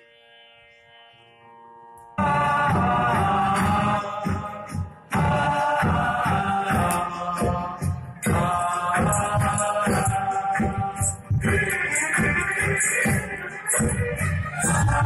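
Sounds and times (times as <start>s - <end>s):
tabla beat: 2.2s - 15.0s
voices singing devotional chant: 2.2s - 15.0s.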